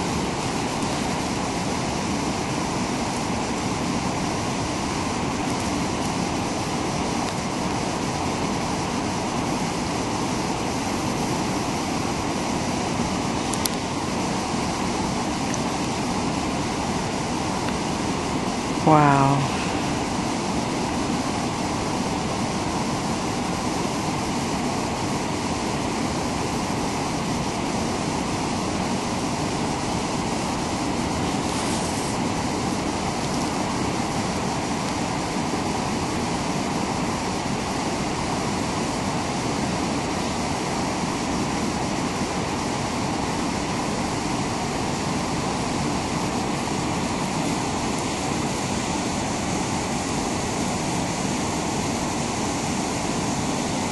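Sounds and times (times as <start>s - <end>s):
river rushing over rapids: 0.0s - 53.9s.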